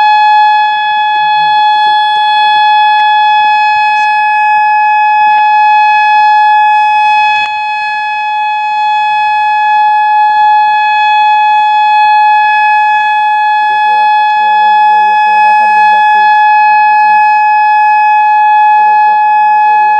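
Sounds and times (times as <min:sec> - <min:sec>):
siren steady tone: 0:00.0 - 0:19.9.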